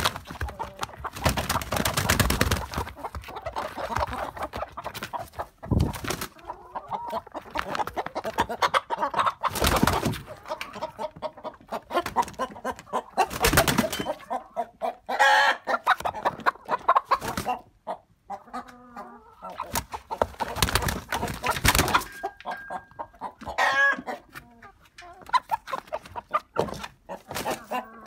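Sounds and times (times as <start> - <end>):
chickens clucking and squawking: 0.0 - 28.0.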